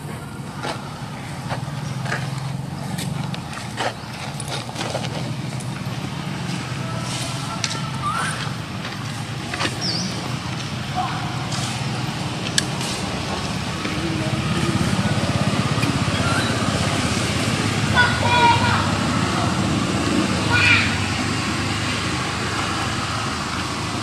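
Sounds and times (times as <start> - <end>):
distant traffic hum: 0.0 - 24.0
voices: 0.0 - 24.0.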